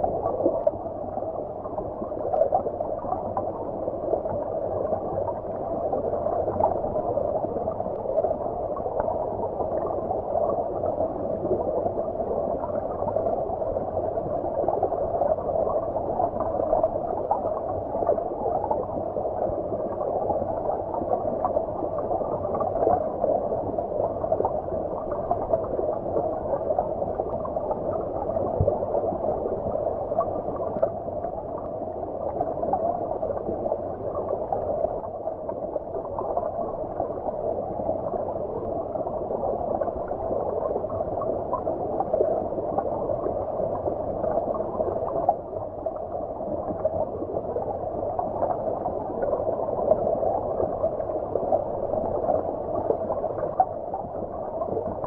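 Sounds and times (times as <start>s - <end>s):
muffled stream water rushing: 0.0s - 55.0s.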